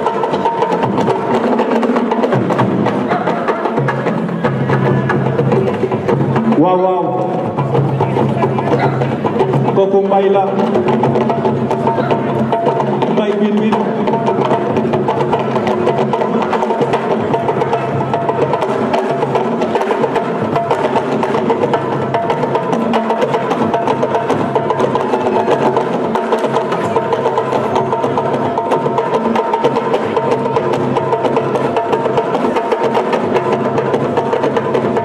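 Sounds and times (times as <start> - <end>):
percussion ensemble drumming: 0.0 - 35.0.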